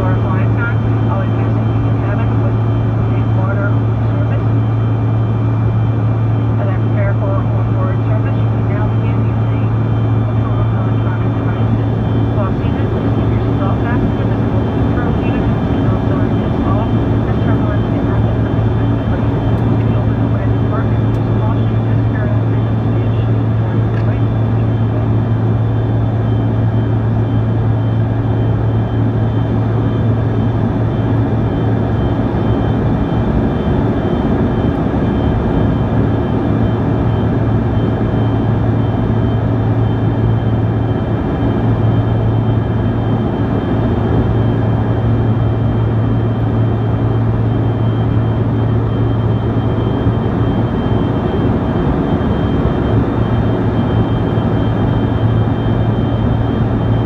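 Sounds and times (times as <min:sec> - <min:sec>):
airliner cabin drone: 0:00.0 - 0:57.0
faint high engine whine: 0:00.0 - 0:57.0.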